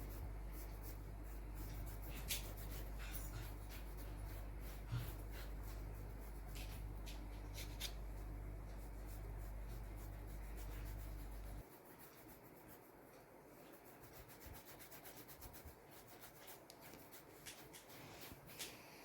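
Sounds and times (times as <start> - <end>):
paintbrush strokes scratching: 0.0 - 19.0.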